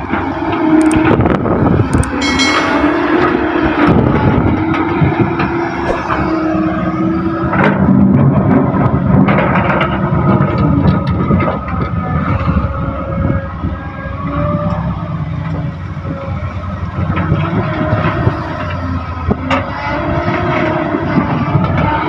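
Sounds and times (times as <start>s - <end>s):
excavator diesel engine digging: 0.0s - 22.0s
whine shifting in pitch: 0.0s - 22.0s.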